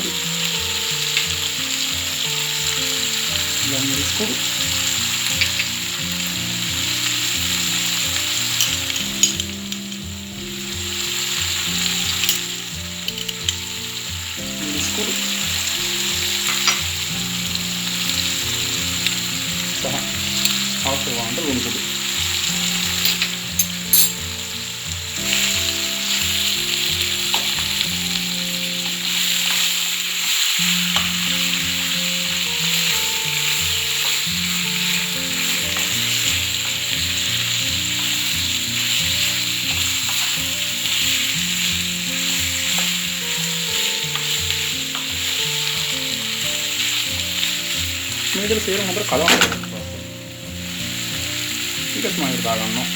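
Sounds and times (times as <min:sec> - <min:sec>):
food frying in oil: 0:00.0 - 0:52.9.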